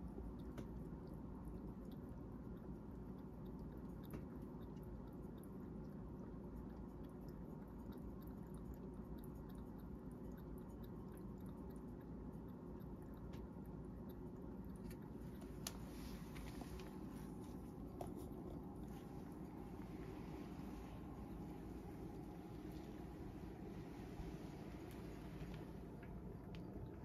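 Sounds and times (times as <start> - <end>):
cat lapping water: 0.0 - 27.0.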